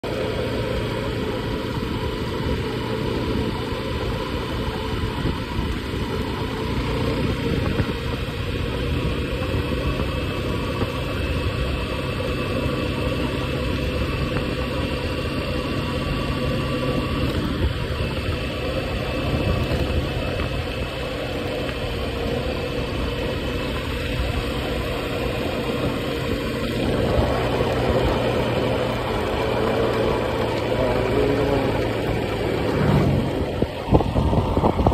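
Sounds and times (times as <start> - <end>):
small vehicle engine running: 0.0 - 34.9
wind and road noise: 0.0 - 34.9.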